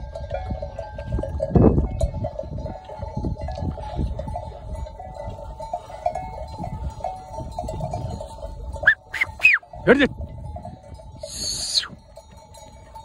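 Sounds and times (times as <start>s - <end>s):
sheep bells clanking: 0.0s - 13.0s
wind on microphone: 0.0s - 13.0s.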